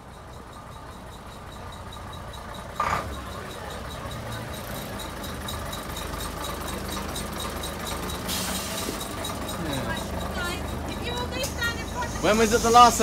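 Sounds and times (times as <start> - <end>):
diesel bus engine idling: 0.0 - 13.0.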